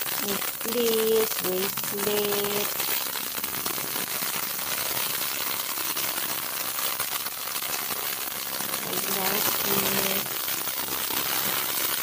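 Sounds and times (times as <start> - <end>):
ultrasonic cleaner crackling hiss: 0.0 - 12.0.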